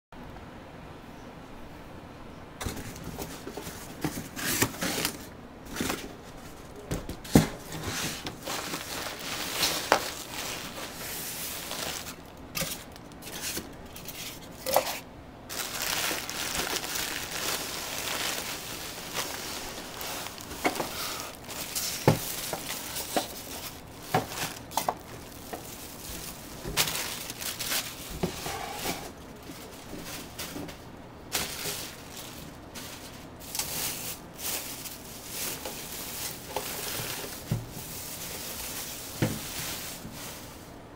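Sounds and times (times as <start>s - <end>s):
cardboard rustling: 2.6s - 14.6s, 15.5s - 40.7s
plastic wrapping crinkling: 2.7s - 40.7s.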